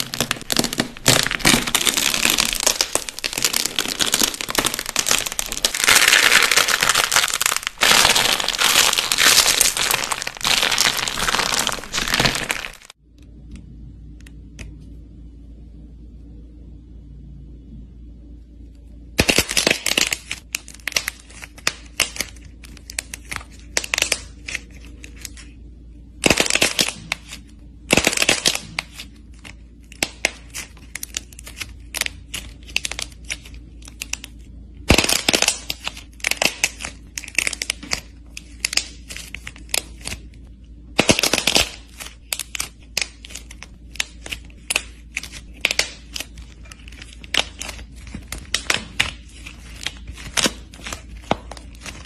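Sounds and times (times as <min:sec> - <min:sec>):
dried clay crackling when crushed: 0:00.0 - 0:13.0, 0:19.2 - 0:52.0.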